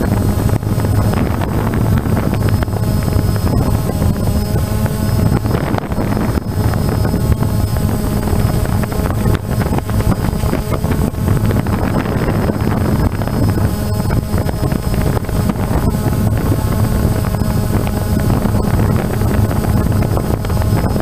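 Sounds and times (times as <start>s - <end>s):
drone motors and propellers: 0.0s - 21.0s
wind buffeting microphone: 0.0s - 21.0s.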